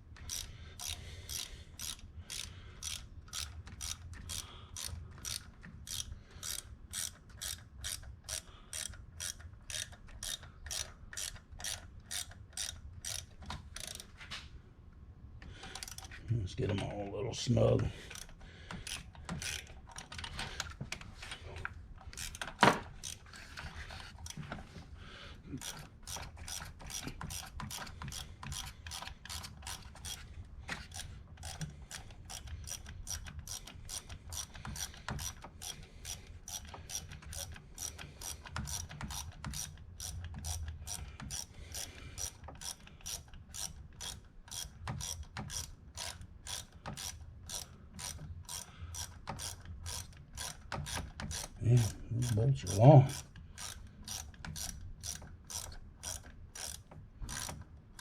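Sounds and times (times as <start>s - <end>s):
ratchet clicking: 0.2s - 14.1s, 15.7s - 16.2s, 18.0s - 20.7s, 22.0s - 24.5s, 25.6s - 58.0s.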